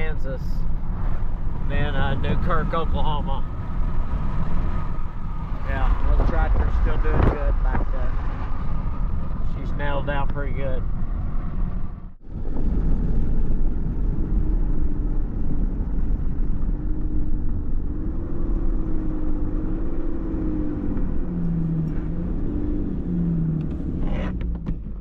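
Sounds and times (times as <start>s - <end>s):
engine and road rumble: 0.0s - 25.0s.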